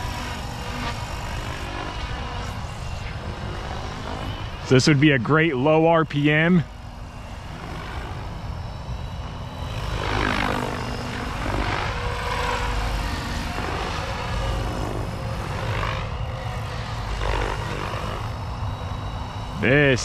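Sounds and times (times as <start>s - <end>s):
rc helicopter rotor whine: 0.0s - 20.0s.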